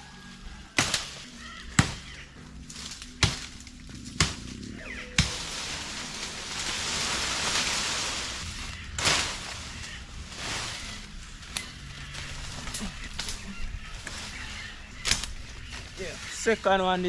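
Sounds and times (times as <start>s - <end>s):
branches and leaves rustling: 0.0s - 17.0s.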